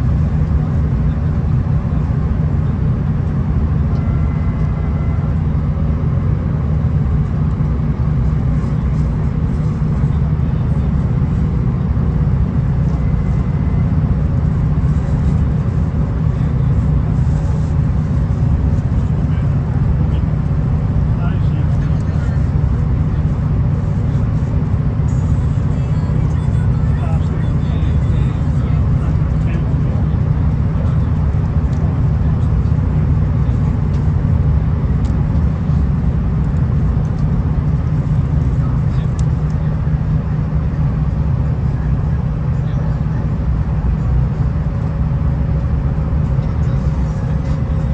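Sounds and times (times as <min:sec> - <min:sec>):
diesel railcar engine rumble: 0:00.0 - 0:47.9.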